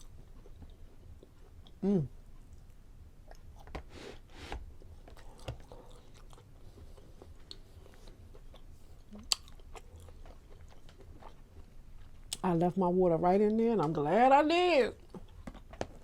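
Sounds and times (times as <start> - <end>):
person chewing food: 0.0 - 12.4, 15.0 - 16.0.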